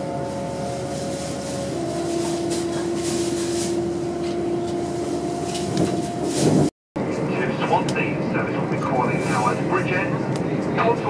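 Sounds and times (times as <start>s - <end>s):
train cabin running noise: 0.0s - 11.0s
train equipment hum: 0.0s - 11.0s.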